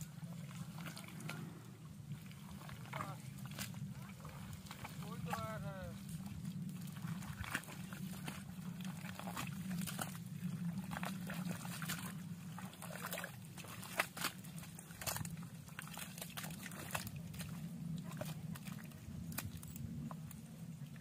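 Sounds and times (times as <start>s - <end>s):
steady low hum: 0.0s - 21.0s
wet mud squelching: 0.0s - 21.0s.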